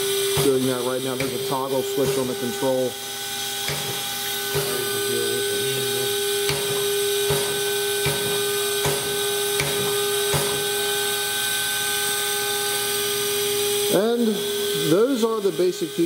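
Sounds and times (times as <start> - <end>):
grinding spindle high hum: 0.0 - 16.0.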